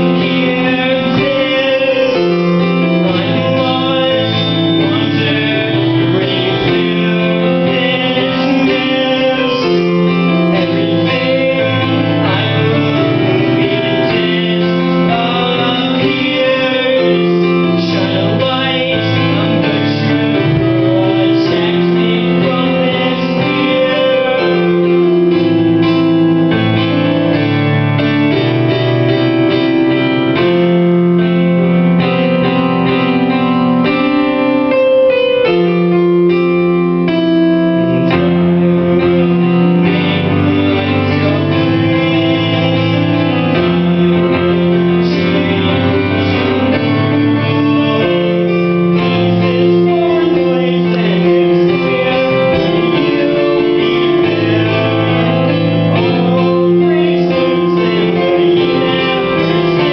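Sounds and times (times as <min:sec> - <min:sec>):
man singing: 0:00.0 - 0:31.4, 0:37.8 - 0:59.9
digital piano chords: 0:00.0 - 0:59.9.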